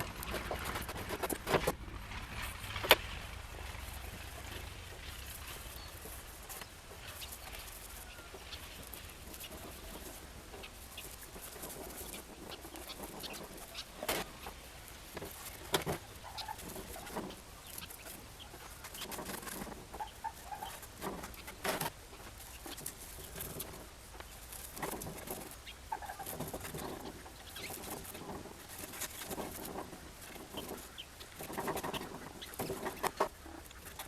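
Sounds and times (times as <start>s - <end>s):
birds calling: 2.8s - 34.0s.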